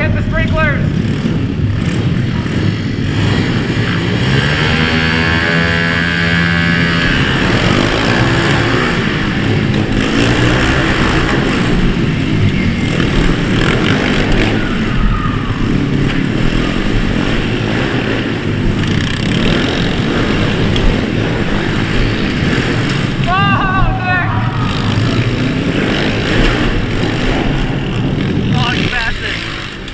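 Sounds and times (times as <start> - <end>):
pit bike engines revving: 0.0 - 29.9.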